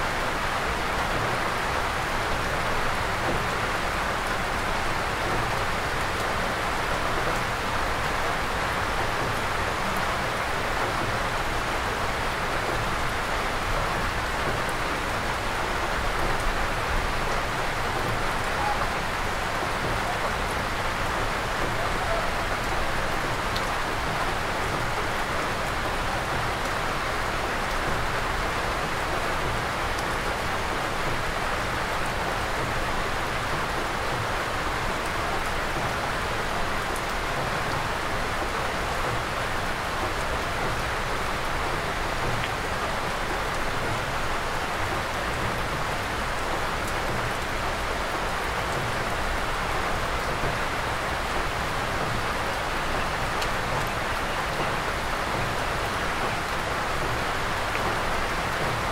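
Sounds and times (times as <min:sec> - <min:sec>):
rain on a wooden roof: 0:00.0 - 0:58.9.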